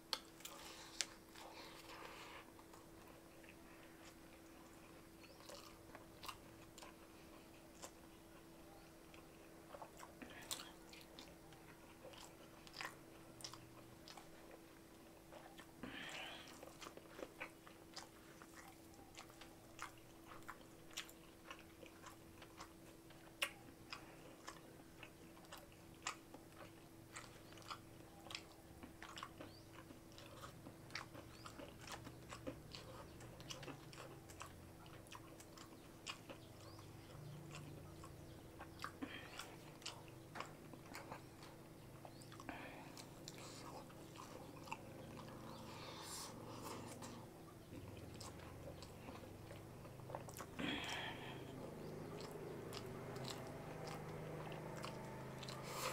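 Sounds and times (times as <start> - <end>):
faint steady hum: 0.0 - 55.9
man chewing food: 0.0 - 55.9.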